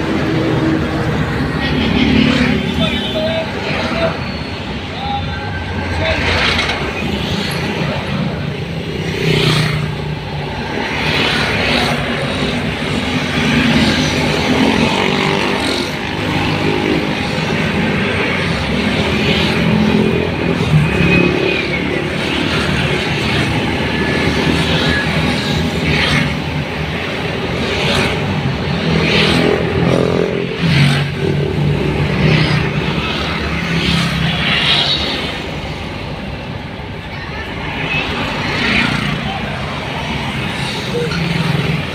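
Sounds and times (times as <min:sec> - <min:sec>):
road noise: 0:00.0 - 0:41.9.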